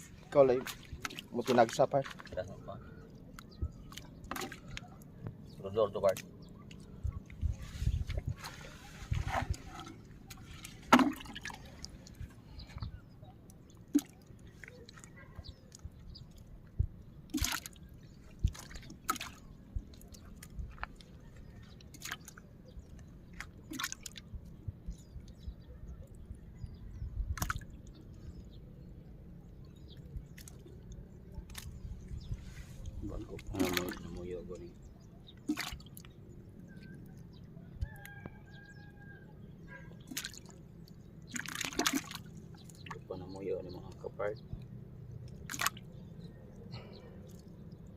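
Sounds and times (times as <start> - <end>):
water drips and splashes: 0.0 - 38.8, 39.7 - 47.9.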